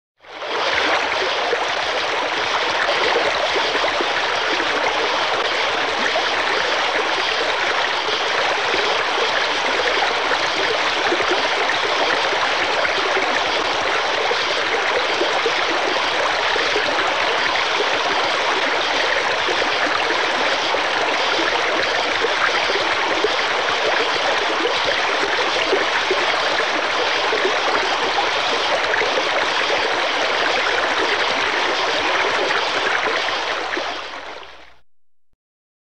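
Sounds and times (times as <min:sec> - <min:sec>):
waterfall pouring and splashing: 0:00.5 - 0:34.4.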